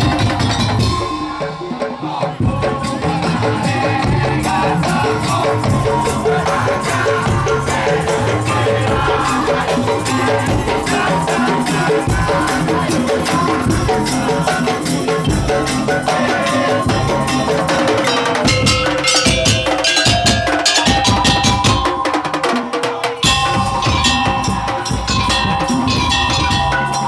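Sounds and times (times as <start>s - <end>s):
percussion band playing: 0.0s - 27.0s.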